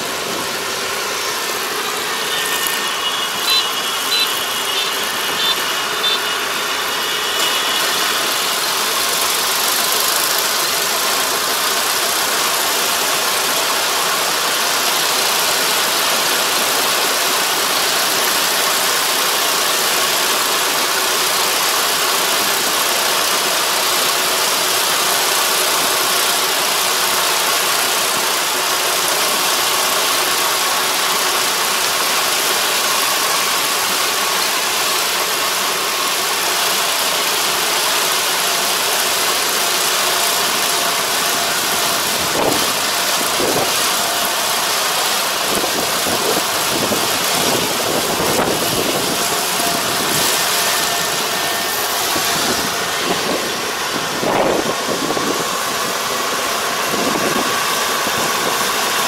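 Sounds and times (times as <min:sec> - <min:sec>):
broad mechanical hiss: 0:00.0 - 0:59.0
combine harvester engine hum: 0:00.0 - 0:59.0.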